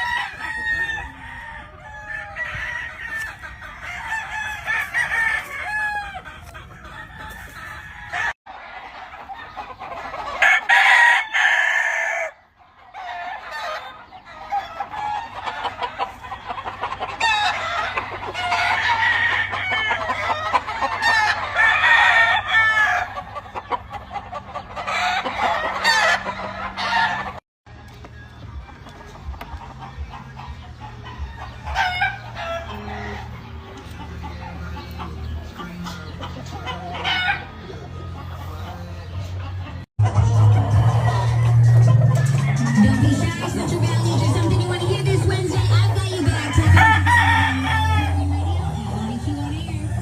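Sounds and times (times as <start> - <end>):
roosters crowing: 0.0 - 39.0, 39.7 - 50.0
hens clucking: 0.0 - 50.0.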